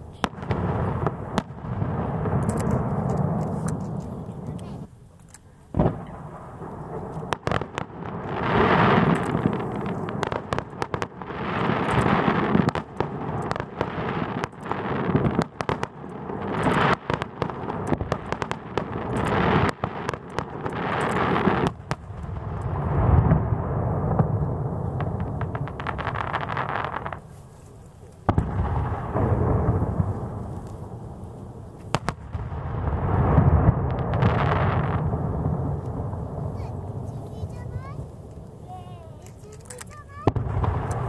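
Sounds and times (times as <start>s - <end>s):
fireworks crackling: 0.0s - 41.0s
firework shell bursts banging: 5.7s - 41.0s.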